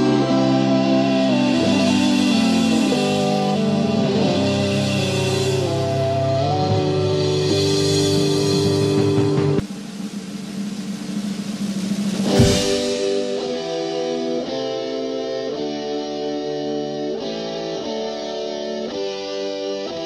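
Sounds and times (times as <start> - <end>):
electric guitar chords: 0.0 - 9.6, 12.1 - 20.0
drums: 0.0 - 20.0.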